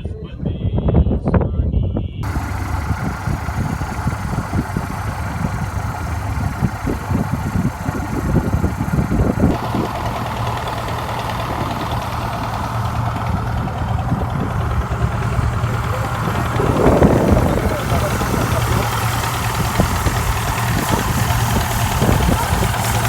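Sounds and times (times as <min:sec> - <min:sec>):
wind buffeting microphone: 0:00.2 - 0:23.0
steady low drone: 0:02.2 - 0:23.0.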